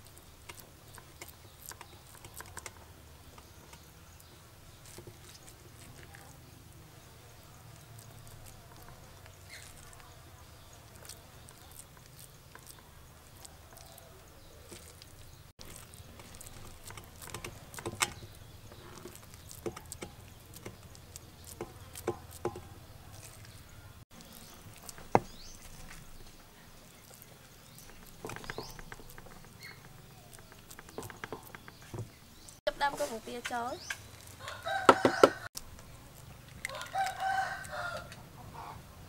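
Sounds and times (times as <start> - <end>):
hands squishing minced meat: 0.0 - 38.3.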